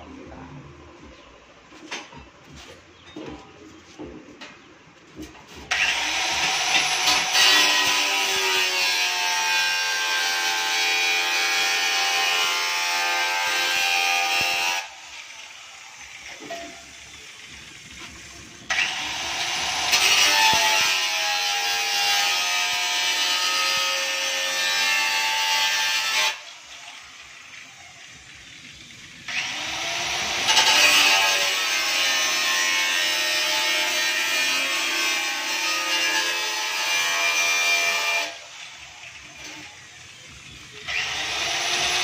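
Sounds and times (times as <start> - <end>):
angle grinder cutting: 5.7 - 27.6, 29.2 - 42.0.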